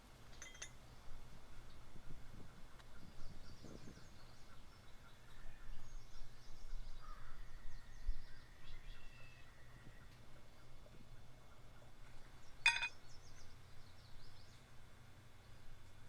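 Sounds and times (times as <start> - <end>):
small birds chirping: 0.8 - 14.7.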